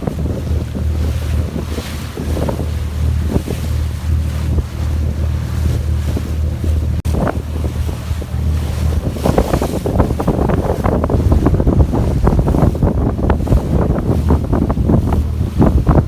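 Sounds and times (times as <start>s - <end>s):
boat engine droning: 0.0s - 16.0s
water rushing past hull: 0.0s - 16.0s
wind buffeting microphone: 0.0s - 16.0s.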